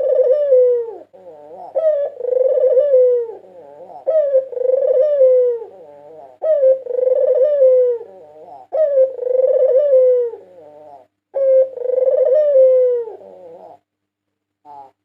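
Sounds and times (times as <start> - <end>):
dove cooing: 0.0 - 13.9, 14.6 - 15.0.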